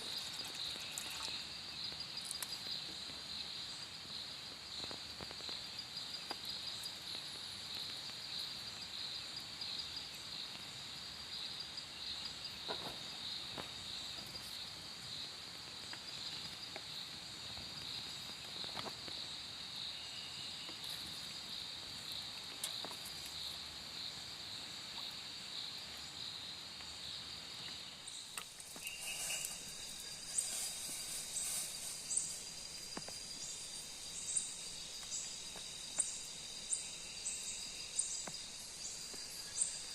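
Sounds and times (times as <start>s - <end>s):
higher-pitched insect: 0.0s - 15.4s, 16.1s - 39.9s
crickets chirping: 0.0s - 39.9s.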